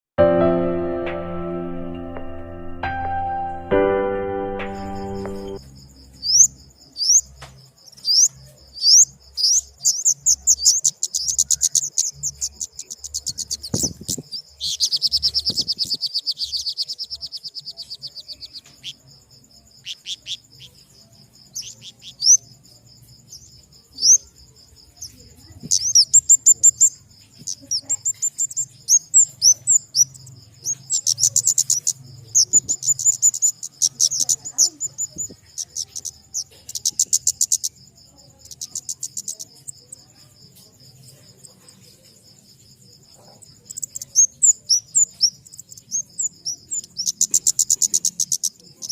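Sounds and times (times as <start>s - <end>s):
bird chirping and trilling: 4.8s - 22.6s, 23.2s - 24.4s, 25.0s - 39.9s, 43.5s - 48.9s.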